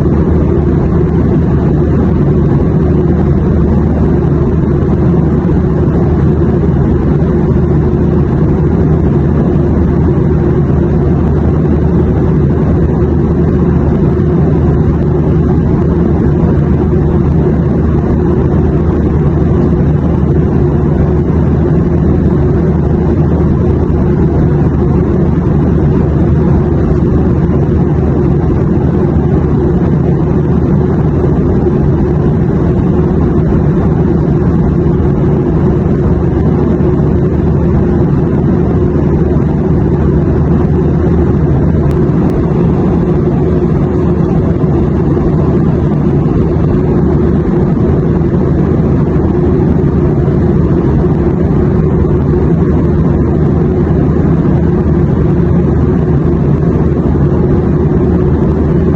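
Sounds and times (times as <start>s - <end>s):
airplane drone: 0.0s - 58.9s.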